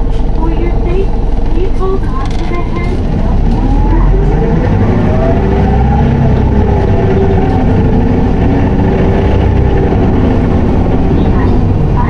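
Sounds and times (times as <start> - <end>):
bus diesel engine rumble: 0.0 - 12.0
faint engine whine: 0.0 - 12.0.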